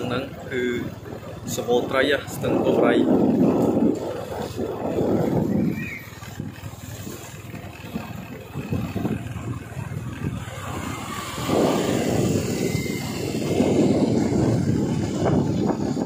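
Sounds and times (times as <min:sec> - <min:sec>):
vehicle engine running: 0:00.0 - 0:16.0
wind rumbling on microphone: 0:00.0 - 0:16.0.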